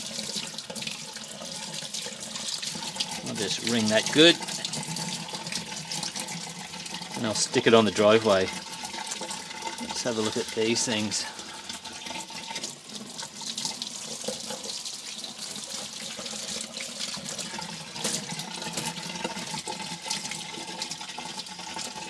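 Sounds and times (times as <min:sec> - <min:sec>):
tap water running into sink: 0:00.0 - 0:22.0.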